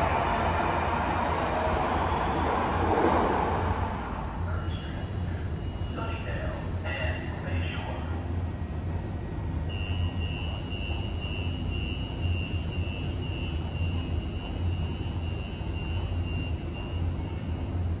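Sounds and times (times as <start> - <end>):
train equipment humming: 0.0 - 8.2, 8.8 - 18.0.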